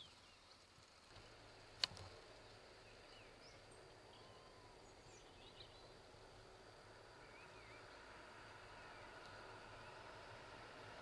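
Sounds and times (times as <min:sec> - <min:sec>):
distant bird chirps: 0:00.0 - 0:11.0.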